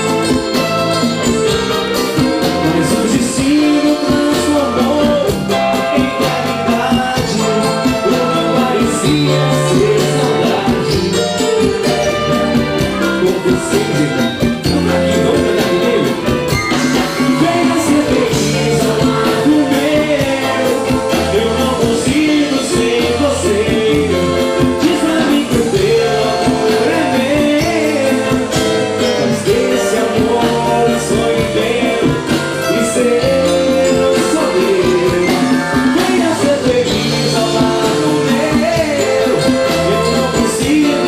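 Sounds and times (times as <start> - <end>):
live band playing: 0.0 - 41.0
person singing: 2.2 - 41.0.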